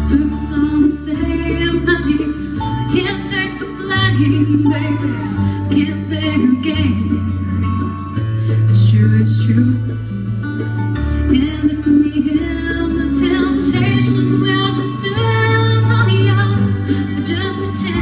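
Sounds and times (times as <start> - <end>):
woman singing country ballad: 0.0 - 7.8, 8.6 - 10.2, 11.1 - 18.0
instrumental accompaniment: 0.0 - 18.0
steady bass line: 0.0 - 18.0.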